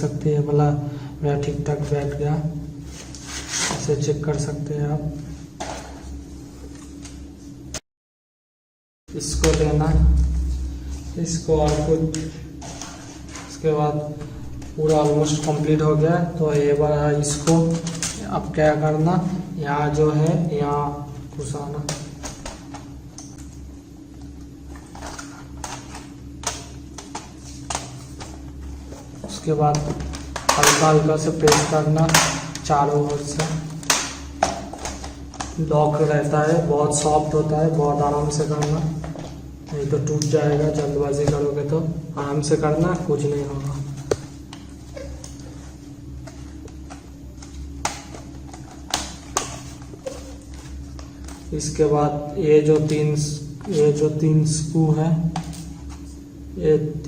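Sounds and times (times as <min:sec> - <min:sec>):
steady low hum: 0:00.0 - 0:07.8, 0:09.1 - 0:57.0.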